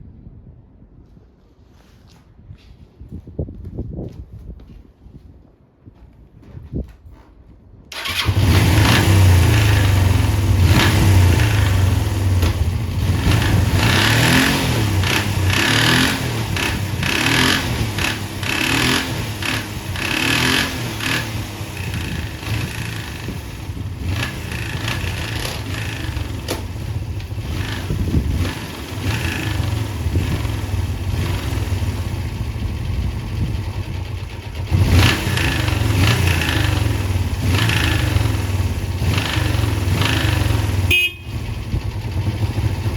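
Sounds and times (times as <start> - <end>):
motorcycle engine starting and running: 7.9 - 42.9.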